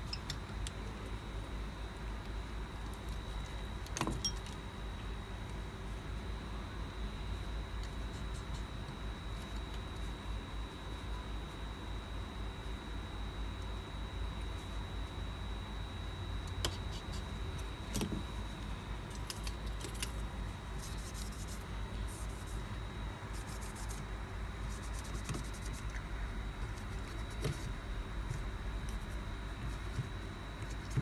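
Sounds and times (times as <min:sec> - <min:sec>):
faint high whine: 0:00.0 - 0:31.0
steady low hum: 0:00.0 - 0:31.0.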